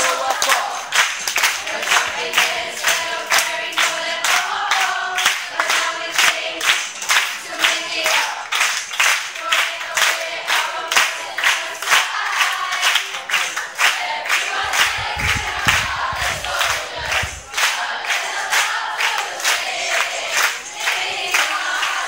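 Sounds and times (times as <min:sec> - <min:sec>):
rhythmic hand clapping: 0:00.0 - 0:22.0
young voices chanting in unison: 0:01.6 - 0:08.6, 0:09.3 - 0:13.2, 0:13.8 - 0:22.0.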